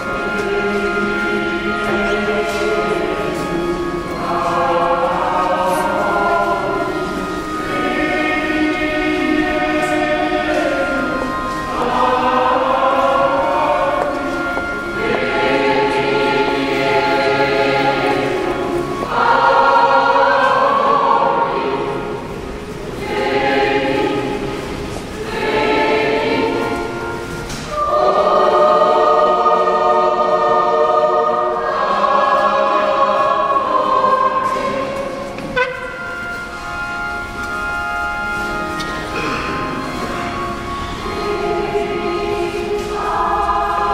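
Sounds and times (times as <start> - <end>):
choir singing a slow hymn: 0.0 - 43.9.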